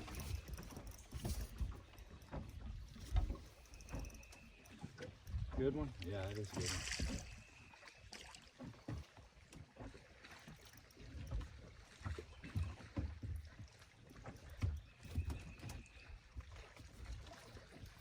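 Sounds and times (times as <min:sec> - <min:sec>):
thumps and knocks in a boat: 0:00.0 - 0:18.0.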